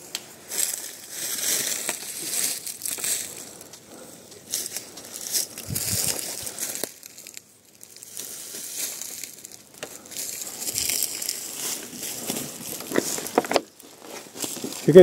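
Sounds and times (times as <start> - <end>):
dry leaves rustling and crunching: 0.0 - 15.0
twigs snapping: 0.1 - 14.9.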